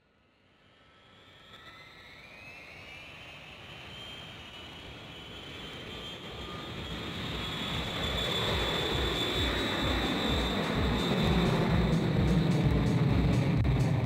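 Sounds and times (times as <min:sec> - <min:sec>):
jet engines whining: 0:00.6 - 0:14.0.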